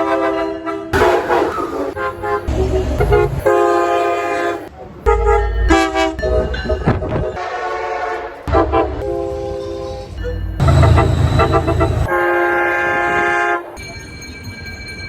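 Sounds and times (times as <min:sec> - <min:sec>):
train horn blasts: 0:00.0 - 0:06.3, 0:07.3 - 0:10.0, 0:10.6 - 0:13.8
deep rumble of trains: 0:00.0 - 0:15.0.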